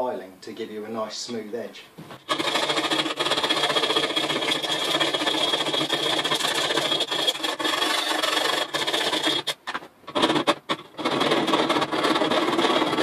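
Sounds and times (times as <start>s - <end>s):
file rasping on metal: 2.2s - 13.0s.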